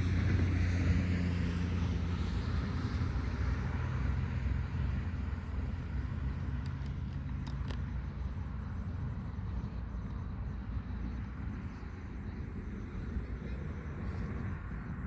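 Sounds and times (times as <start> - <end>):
low engine-like drone: 0.0 - 15.0.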